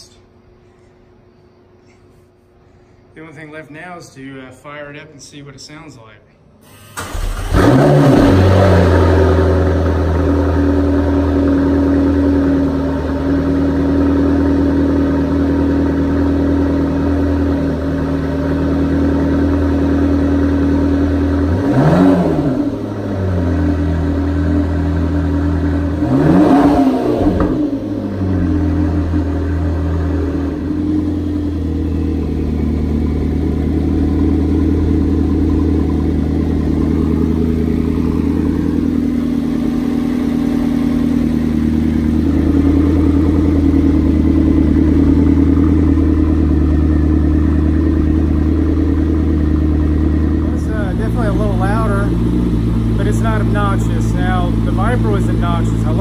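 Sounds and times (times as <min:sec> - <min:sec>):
car engine idling: 0:06.7 - 0:56.0
engine throttle blips: 0:06.7 - 0:56.0.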